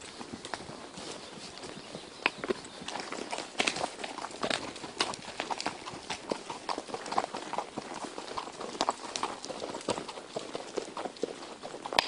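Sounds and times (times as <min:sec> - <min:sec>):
horse hoofbeats: 0:00.0 - 0:12.0.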